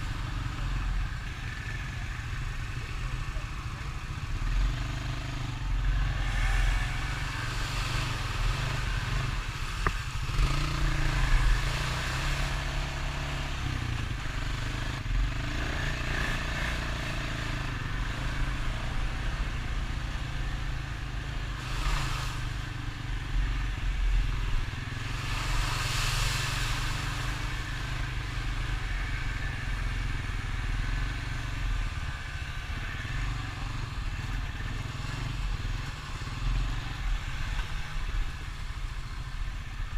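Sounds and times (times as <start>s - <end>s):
quad bike engine revving: 4.4s - 23.8s, 24.6s - 37.9s.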